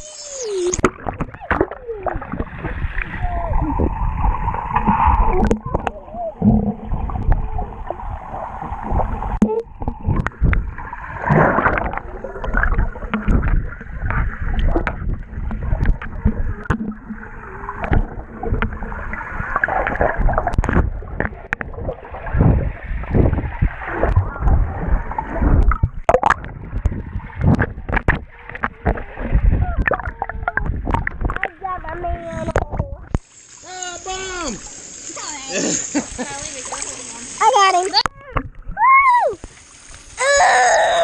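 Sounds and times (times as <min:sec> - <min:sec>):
water sloshing and gurgling: 0:00.0 - 0:41.0
water splashes: 0:00.0 - 0:41.0.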